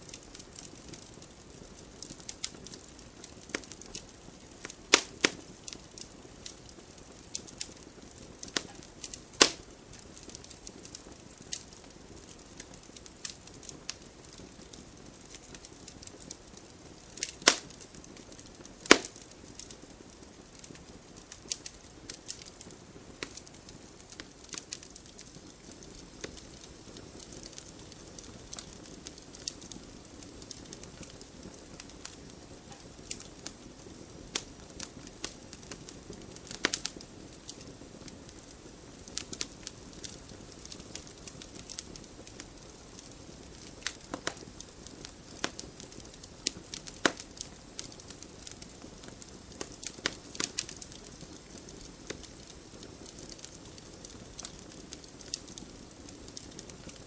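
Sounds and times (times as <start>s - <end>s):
fire crackling and popping: 0.0s - 57.0s
wood fire hissing: 0.0s - 57.0s.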